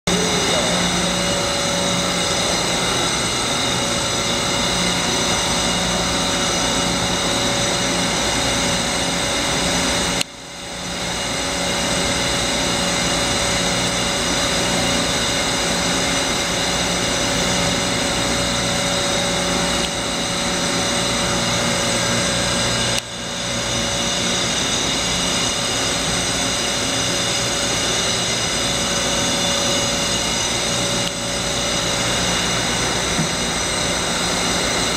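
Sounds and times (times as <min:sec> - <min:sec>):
high machine whines: 0:00.1 - 0:34.9
machine hum: 0:00.1 - 0:34.9.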